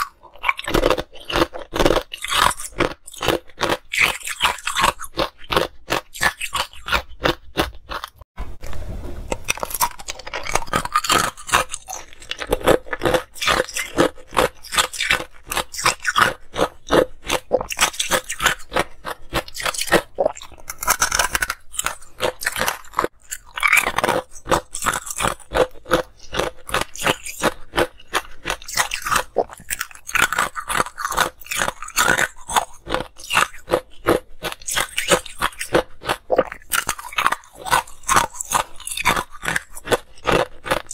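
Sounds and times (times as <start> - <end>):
ice cubes crunching while chewed: 0.0 - 8.2, 9.5 - 40.9.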